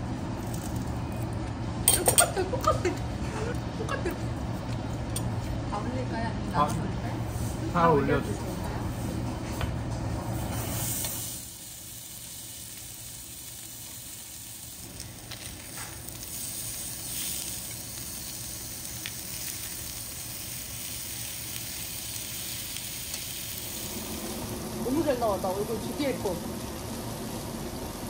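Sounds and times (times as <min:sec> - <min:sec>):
pork sizzling on grill: 0:00.0 - 0:05.6, 0:06.5 - 0:28.0.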